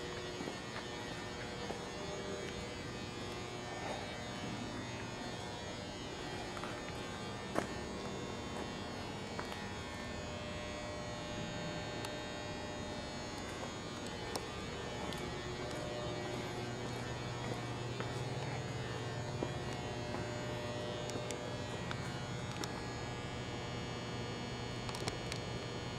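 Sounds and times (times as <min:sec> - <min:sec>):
electrical hum and buzz: 0:00.0 - 0:25.9
lower hum: 0:00.0 - 0:25.9.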